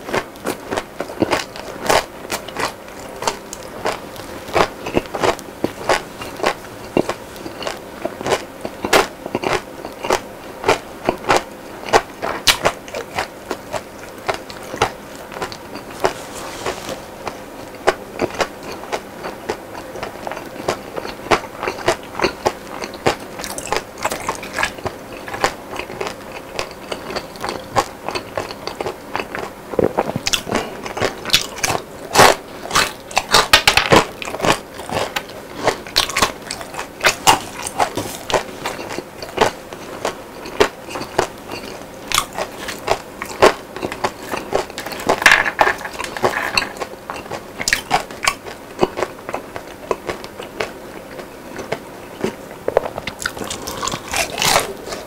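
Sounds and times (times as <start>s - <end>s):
person chewing crispy food: 0.0s - 55.0s.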